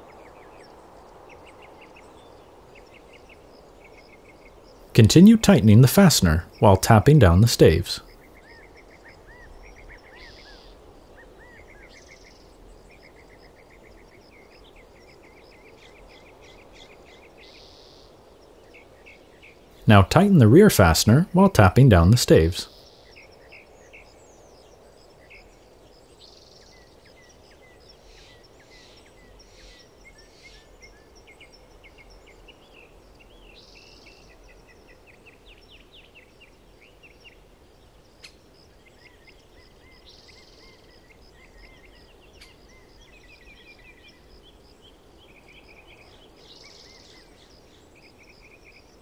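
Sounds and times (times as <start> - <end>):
low outdoor background hum: 0.0 - 49.0
small birds chirping: 0.0 - 49.0.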